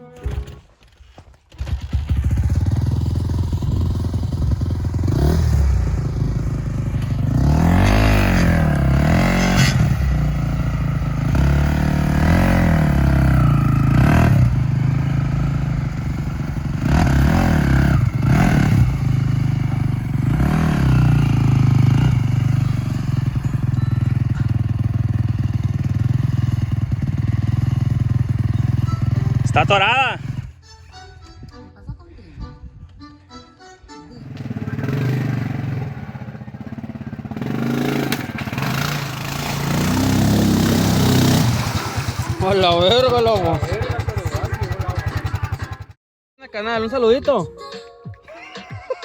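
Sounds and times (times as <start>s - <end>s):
quad engine revving: 1.5s - 30.6s, 34.2s - 46.0s.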